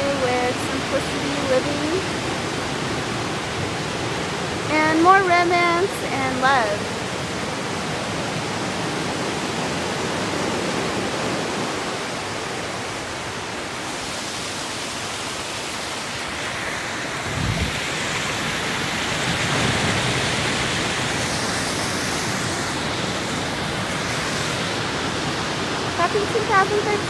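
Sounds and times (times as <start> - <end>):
water rushing in creek: 0.0 - 27.0.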